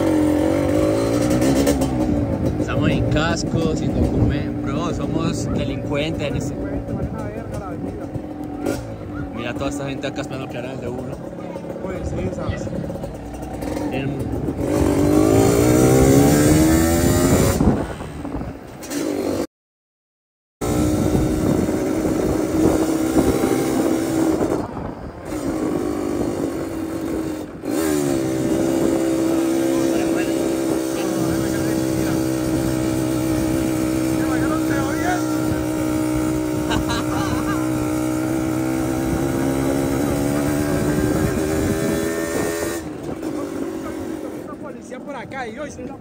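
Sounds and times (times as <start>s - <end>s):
dirt bike engine running: 0.0s - 17.6s, 20.6s - 46.0s
wind on the microphone: 2.1s - 10.0s, 11.8s - 18.8s, 20.6s - 44.6s.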